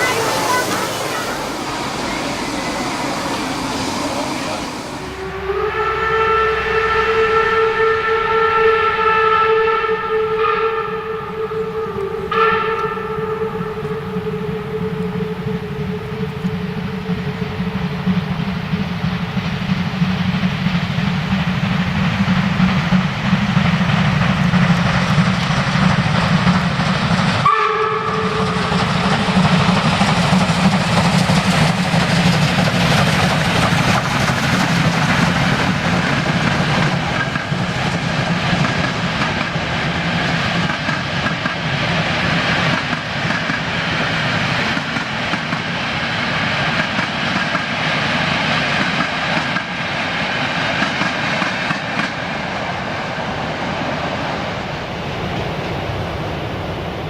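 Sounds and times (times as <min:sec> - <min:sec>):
steam locomotive chuffing: 0:00.0 - 0:57.0
train rolling over rails: 0:00.0 - 0:57.0.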